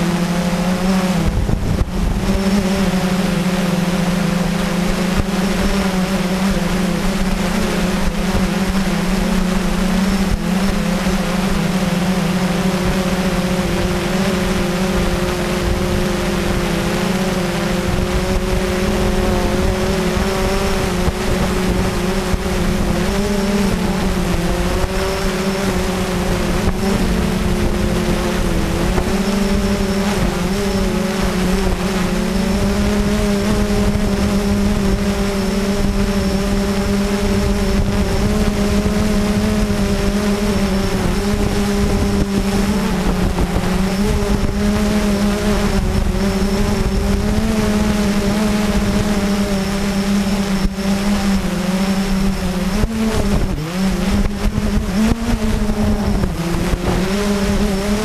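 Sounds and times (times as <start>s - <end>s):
faint high whine: 0.0s - 58.0s
quadcopter motors droning: 0.0s - 58.0s.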